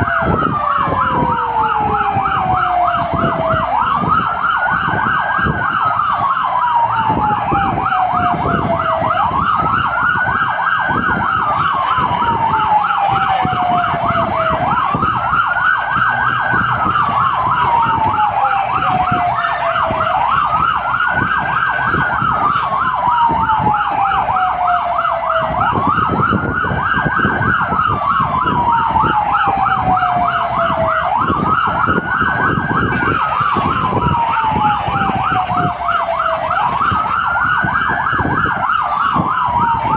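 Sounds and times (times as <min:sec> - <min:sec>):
fast siren yelp: 0:00.0 - 0:39.9
fire engine siren wailing: 0:00.0 - 0:39.9
truck engine rumbling: 0:00.0 - 0:39.9.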